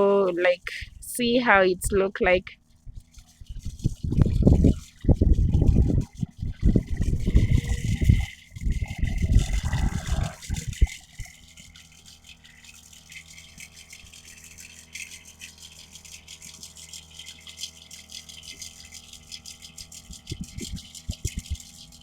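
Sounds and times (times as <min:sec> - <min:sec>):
sprayer pump humming: 0:00.0 - 0:22.0.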